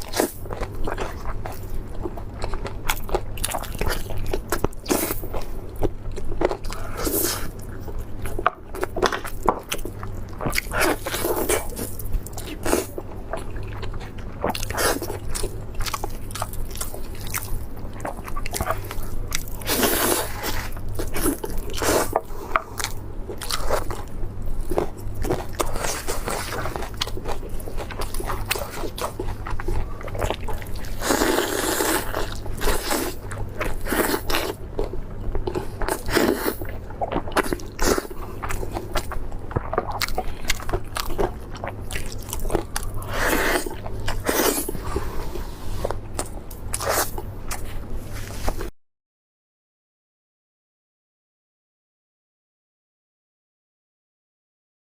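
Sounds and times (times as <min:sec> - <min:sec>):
crunchy chewing: 0:00.0 - 0:48.7
steady low hum: 0:00.0 - 0:48.7.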